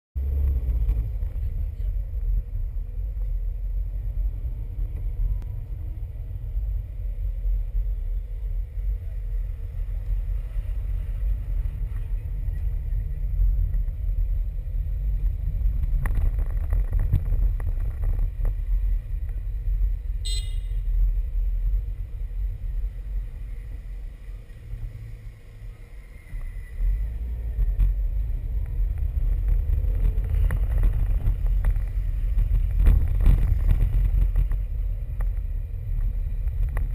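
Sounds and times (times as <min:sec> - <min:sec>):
car rumbling: 0:00.2 - 0:36.9.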